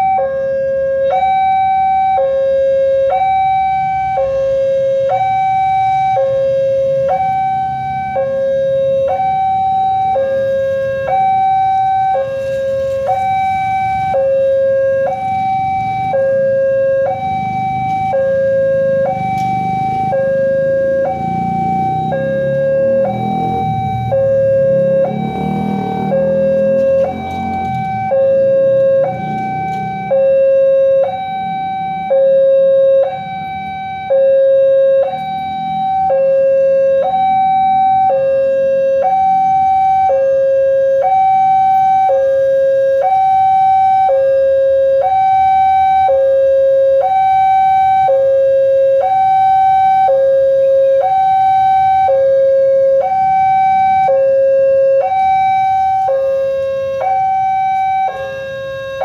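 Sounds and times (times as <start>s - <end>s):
two-tone crossing alarm: 0.0s - 59.0s.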